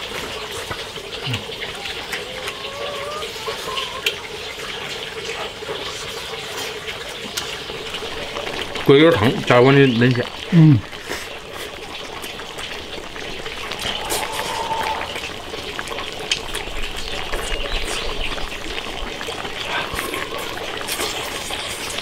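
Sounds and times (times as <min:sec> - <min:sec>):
liquid bubbling in a wok: 0:00.0 - 0:22.0.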